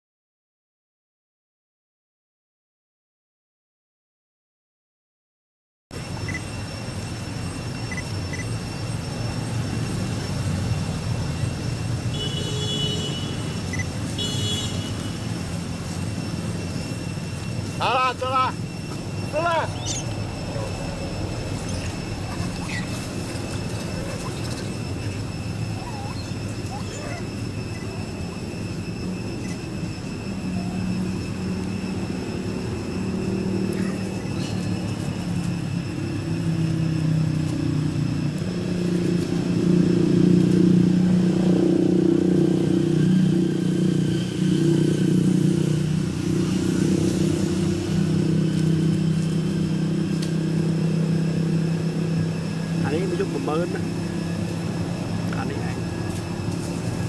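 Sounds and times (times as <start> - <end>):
vehicle engine running: 6.0 - 57.0.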